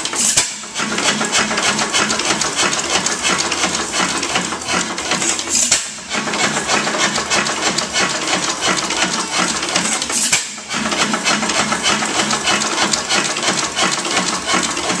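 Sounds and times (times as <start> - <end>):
engine mechanical clatter: 0.0 - 15.0.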